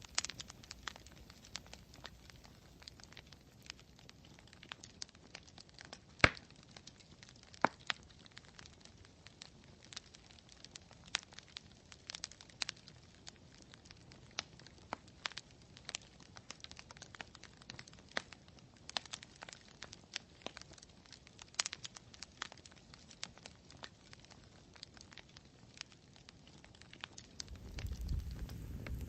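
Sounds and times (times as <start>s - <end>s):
campfire crackling and popping: 0.0s - 29.0s
low rumble of flame: 0.0s - 29.0s.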